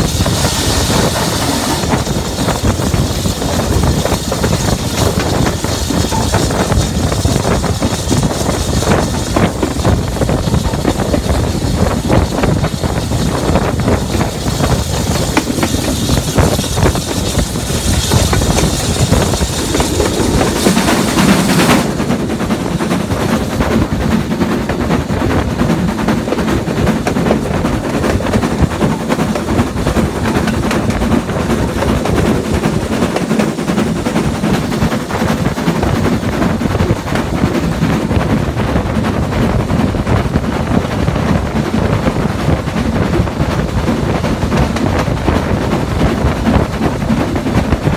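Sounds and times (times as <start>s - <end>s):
steam locomotive exhaust beats: 0.0s - 47.9s
wind hiss on microphone: 0.0s - 47.9s.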